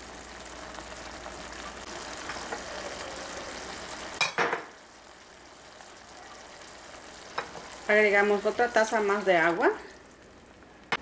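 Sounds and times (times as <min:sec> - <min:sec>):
broth simmering and sizzling: 0:00.0 - 0:11.0.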